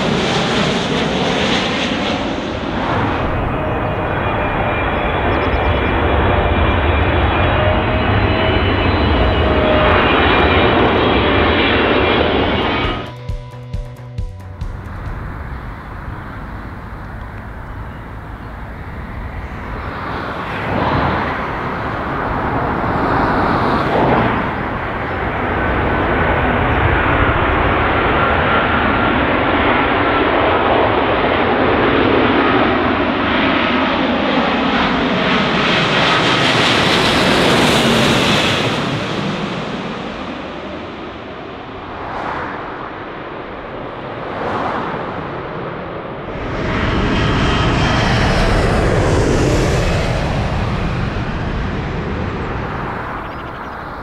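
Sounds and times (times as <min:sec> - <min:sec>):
jet airliner passing overhead: 0:00.0 - 0:13.7, 0:14.4 - 0:54.0
steady jet engine whine: 0:00.0 - 0:54.0.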